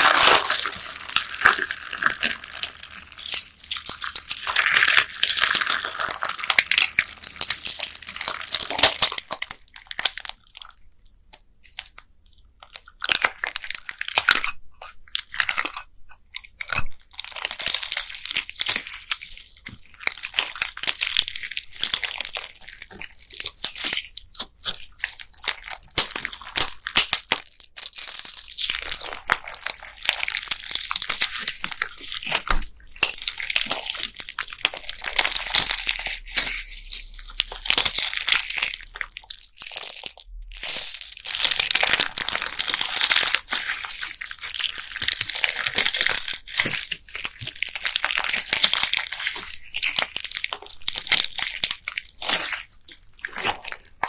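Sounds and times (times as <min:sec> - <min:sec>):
slime with beads crackling: 0:00.0 - 0:54.0.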